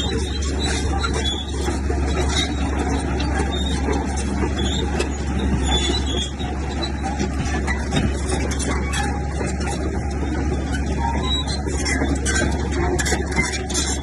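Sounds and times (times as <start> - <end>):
diesel earth-moving machine drone: 0.0 - 14.0.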